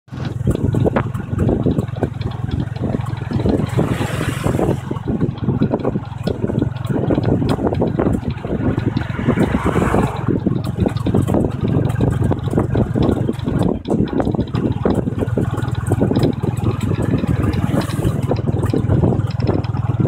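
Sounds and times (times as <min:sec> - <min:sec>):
motorcycle engine running: 0:00.1 - 0:20.0
road noise: 0:00.1 - 0:20.0
short rattling knocks: 0:00.1 - 0:20.0.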